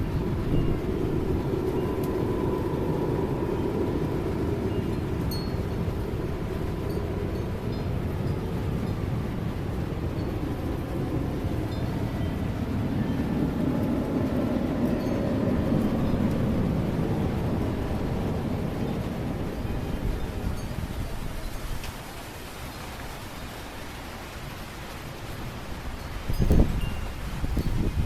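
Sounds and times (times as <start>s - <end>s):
strong wind on microphone: 0.0s - 22.2s, 24.6s - 28.0s.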